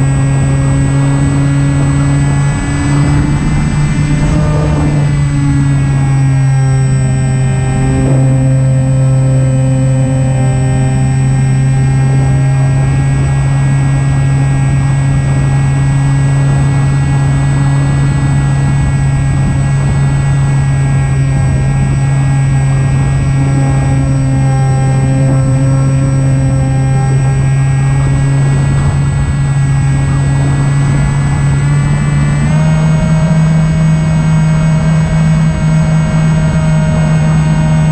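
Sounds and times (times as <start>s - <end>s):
electric motor and propeller droning: 0.0s - 37.9s.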